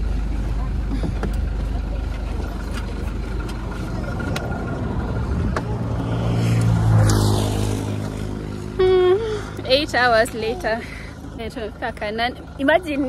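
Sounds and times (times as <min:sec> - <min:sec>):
low rumble: 0:00.0 - 0:12.8
van engine idling: 0:00.0 - 0:13.0.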